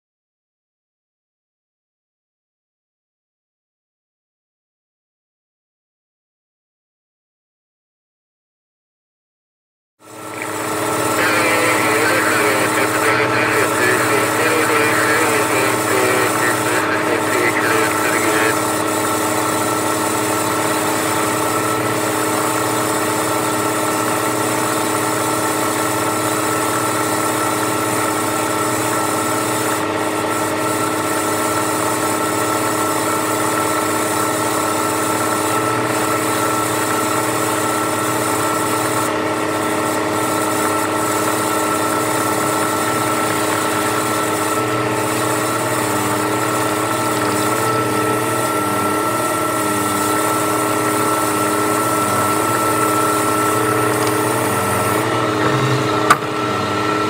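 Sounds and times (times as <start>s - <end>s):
engine droning steadily: 10.0s - 57.0s.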